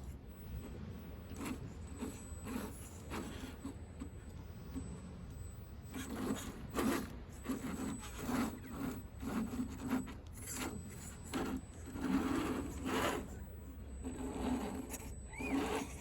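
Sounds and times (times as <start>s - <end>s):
electric motor and gears whirring: 0.0s - 16.0s
thin high whine: 0.0s - 16.0s.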